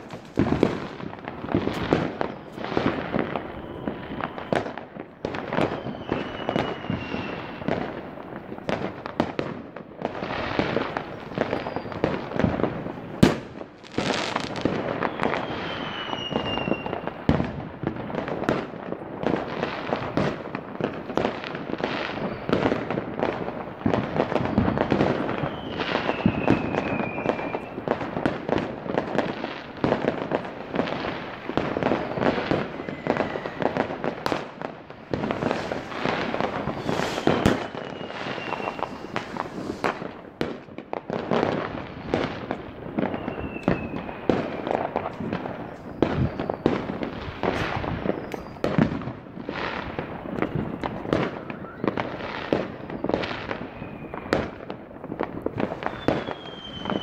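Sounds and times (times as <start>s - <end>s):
falling firework whistle: 0.0s - 8.0s, 8.6s - 54.8s, 55.4s - 57.0s
fireworks bangs and crackles: 0.0s - 57.0s.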